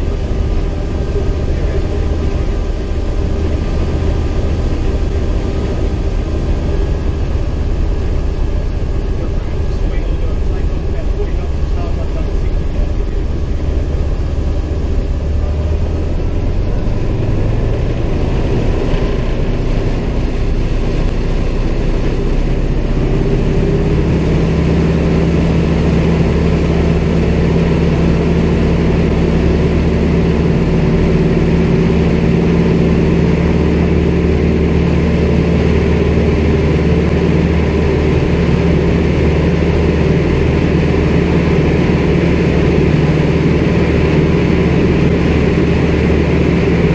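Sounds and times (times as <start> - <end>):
aircraft radial engine drone: 0.0 - 46.9.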